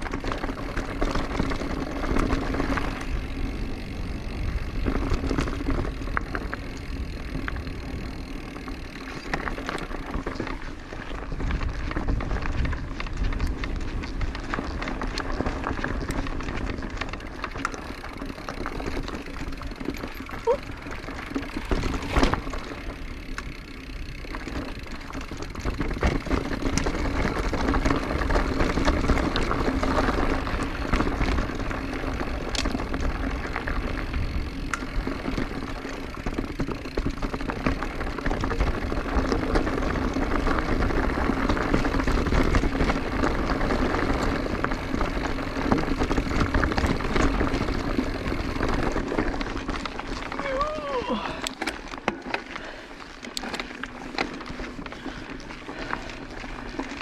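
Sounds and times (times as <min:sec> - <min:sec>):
bike tyres crunching on dirt: 0:00.0 - 0:57.0.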